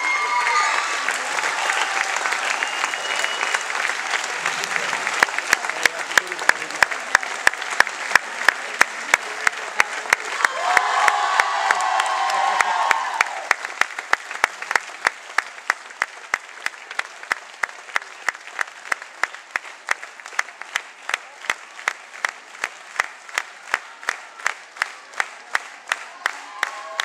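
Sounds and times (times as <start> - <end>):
crowd clapping in unison: 0.0 - 27.0.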